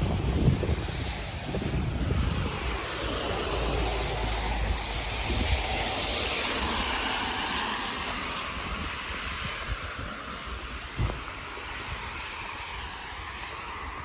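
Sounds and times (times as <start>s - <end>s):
tyres hissing on wet pavement: 0.0s - 14.0s
wind rumble on microphone: 0.0s - 14.0s.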